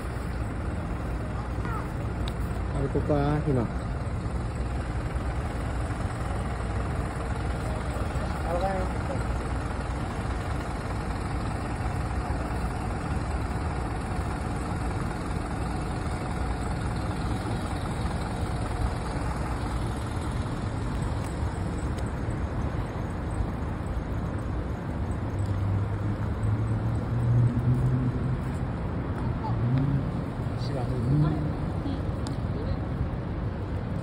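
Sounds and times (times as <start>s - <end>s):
deep engine hum: 0.0s - 34.0s
road traffic: 0.0s - 34.0s.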